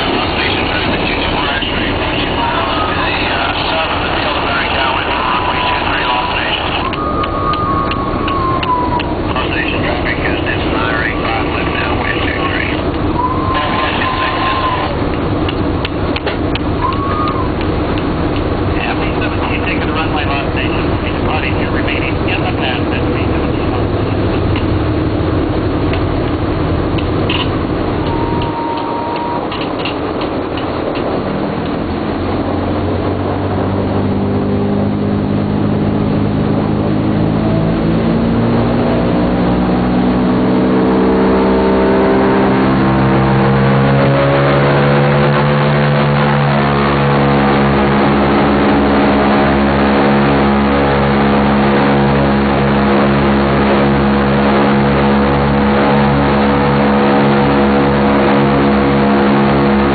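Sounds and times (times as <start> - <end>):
radial aircraft engines throttling up: 0.0 - 59.9.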